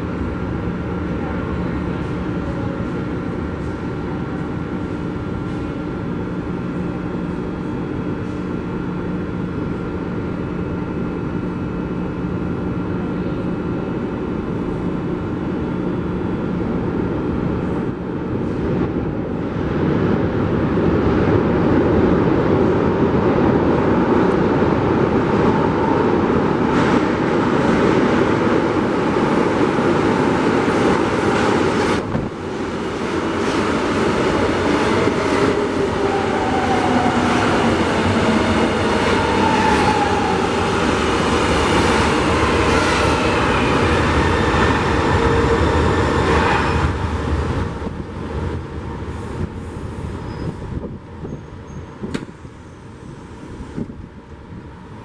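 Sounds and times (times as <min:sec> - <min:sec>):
metro train running: 0:00.0 - 0:55.0.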